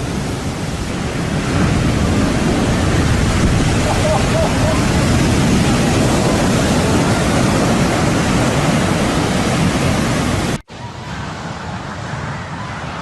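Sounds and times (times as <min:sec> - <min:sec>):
ocean waves breaking: 0:00.0 - 0:13.0
surf rushing: 0:00.0 - 0:13.0.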